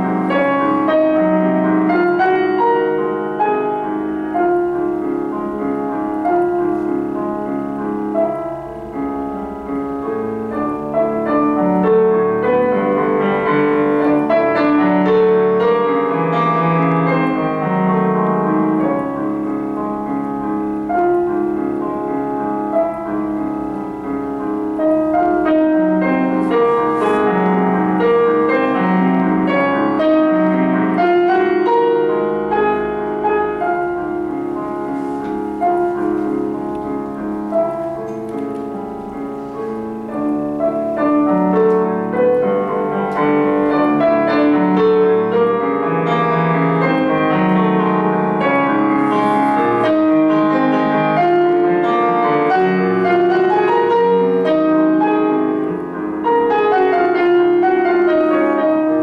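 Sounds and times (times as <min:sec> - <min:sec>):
solo piano music: 0:00.0 - 0:59.0.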